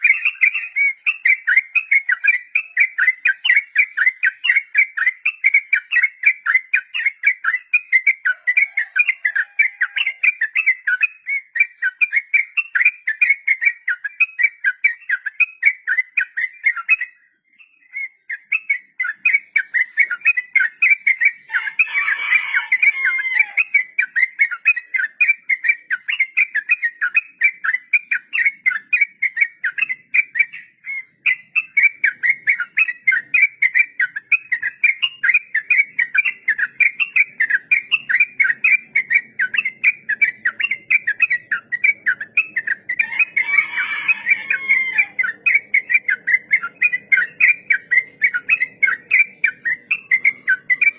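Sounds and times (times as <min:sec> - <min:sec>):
harsh bird chattering: 0:00.0 - 0:17.2, 0:18.3 - 0:50.9
bird singing rapid whistled notes: 0:00.0 - 0:50.9.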